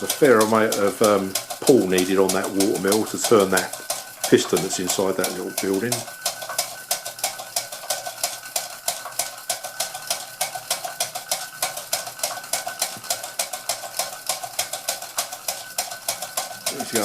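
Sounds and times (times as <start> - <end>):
thin steady tone: 0.0 - 17.0
toy steam engine chuffing: 0.0 - 17.0.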